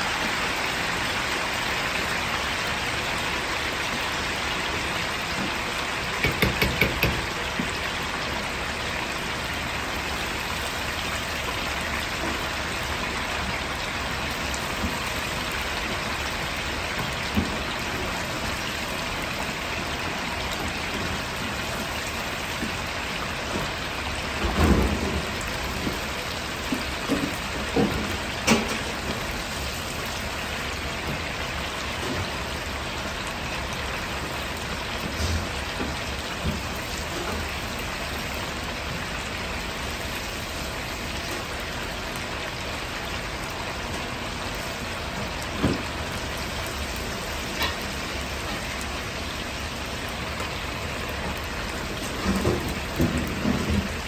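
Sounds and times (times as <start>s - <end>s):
chicken deep-frying in oil: 0.0s - 54.0s.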